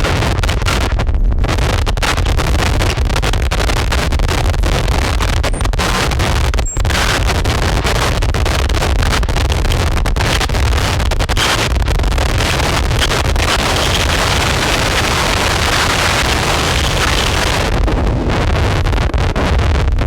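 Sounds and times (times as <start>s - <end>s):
harsh distorted noise: 0.0s - 20.0s.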